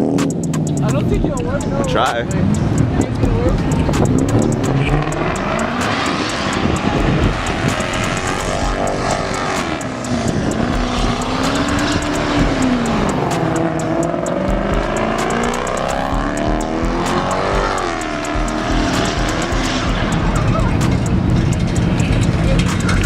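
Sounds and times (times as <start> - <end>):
car engine revving hard: 0.0 - 23.0
exhaust crackles and pops: 0.0 - 23.0.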